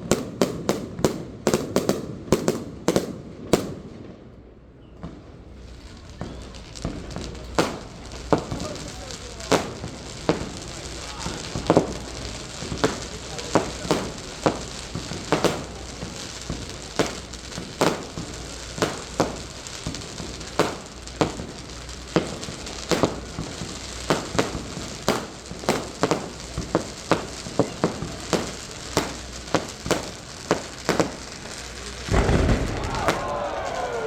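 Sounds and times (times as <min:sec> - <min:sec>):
continuous hiss: 0:00.0 - 0:34.0
fireworks crackling and popping: 0:00.0 - 0:34.0.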